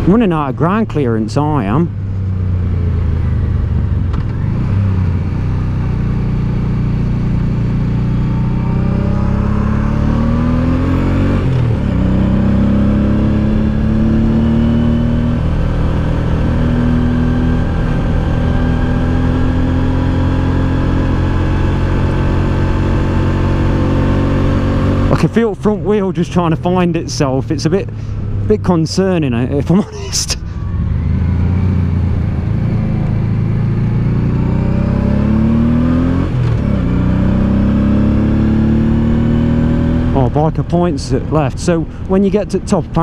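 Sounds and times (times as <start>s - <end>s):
motorcycle engine pulling uphill: 0.0s - 43.0s.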